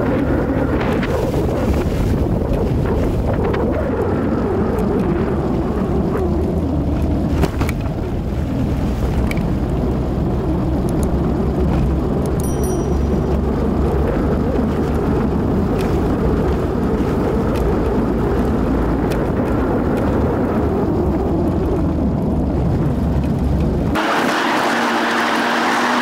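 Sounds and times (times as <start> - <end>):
wind rumble on microphone: 0.0 - 24.0
motorcycle engine hum: 0.0 - 24.1.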